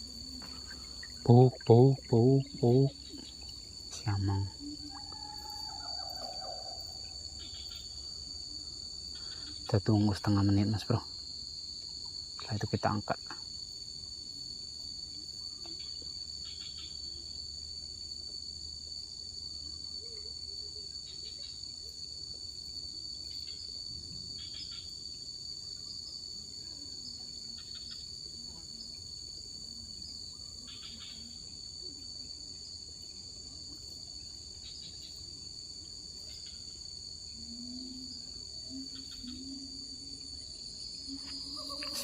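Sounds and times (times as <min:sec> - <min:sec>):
insect chirps: 0:00.0 - 0:42.0
insects trilling: 0:00.0 - 0:42.0.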